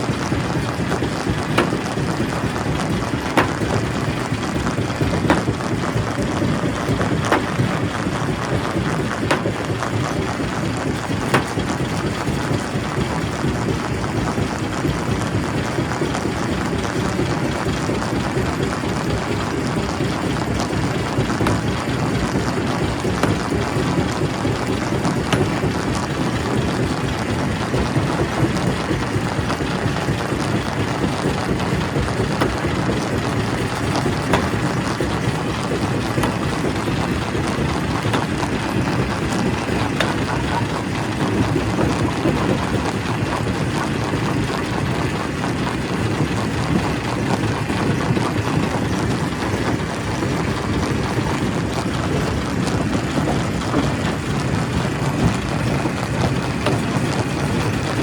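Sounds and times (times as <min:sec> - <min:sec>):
rock crusher running: 0:00.0 - 0:58.0.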